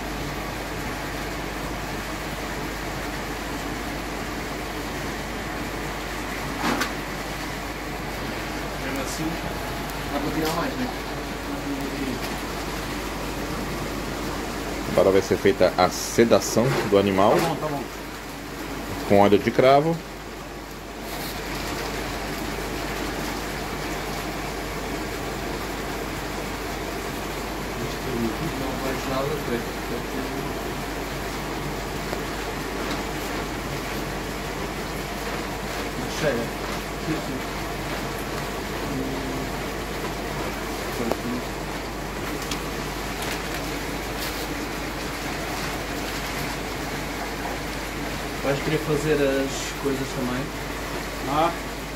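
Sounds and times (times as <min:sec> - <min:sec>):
aquarium filter and pump hum: 0:00.0 - 0:51.9.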